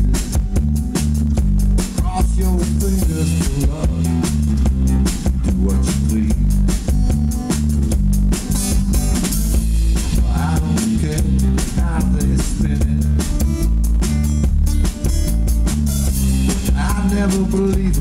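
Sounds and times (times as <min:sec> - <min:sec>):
drum kit steady beat: 0:00.0 - 0:18.0
heavy bass: 0:00.0 - 0:18.0
strummed acoustic guitar: 0:00.0 - 0:18.0.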